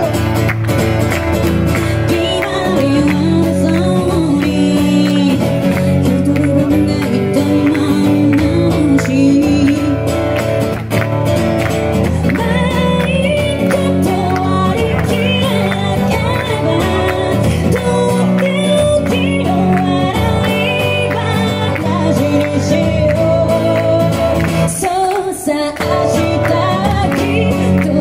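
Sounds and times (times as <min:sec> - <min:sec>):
woman singing into a microphone: 0:00.0 - 0:00.2, 0:01.7 - 0:10.3, 0:12.0 - 0:28.0
acoustic guitar: 0:00.0 - 0:28.0.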